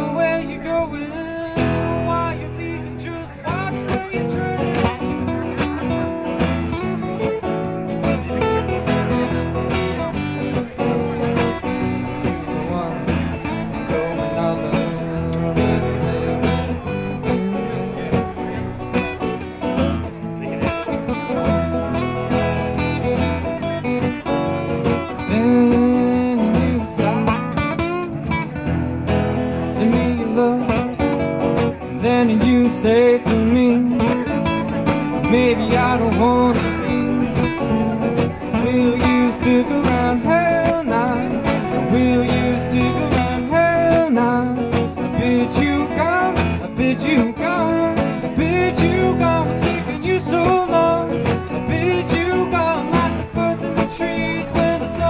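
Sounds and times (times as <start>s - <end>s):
acoustic guitar duo: 0.0s - 55.0s.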